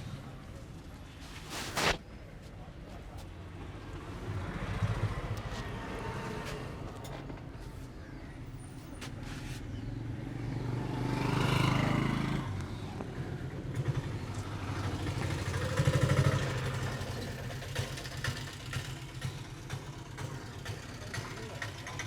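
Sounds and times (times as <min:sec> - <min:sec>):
vehicle engines passing: 0:03.0 - 0:22.0.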